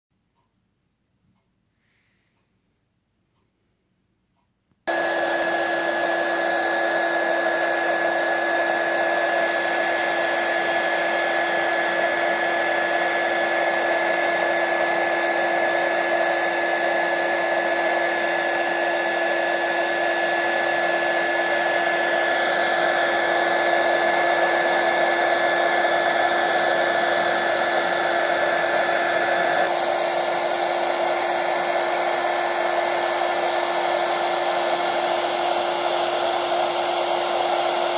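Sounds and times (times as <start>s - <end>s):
hot-air blower whining: 4.9s - 37.9s.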